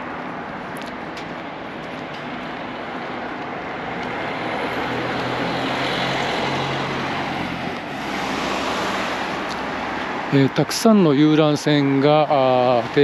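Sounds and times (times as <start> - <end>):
road traffic rushing past: 0.0 - 13.0.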